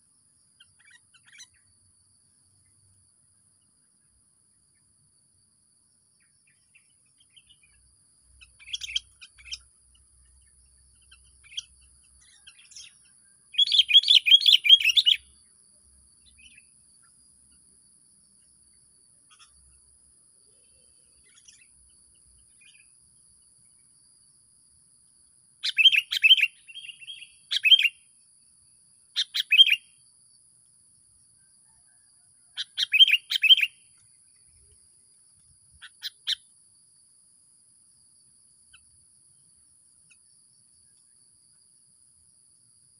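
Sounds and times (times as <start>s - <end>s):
songbird chirping: 0.0s - 42.9s.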